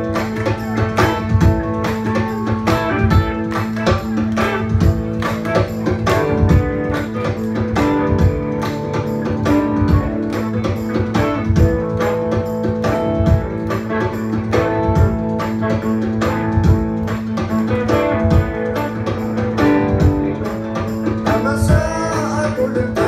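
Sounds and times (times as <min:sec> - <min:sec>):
guitars: 0:00.0 - 0:23.0
steady drum beat: 0:00.0 - 0:23.0.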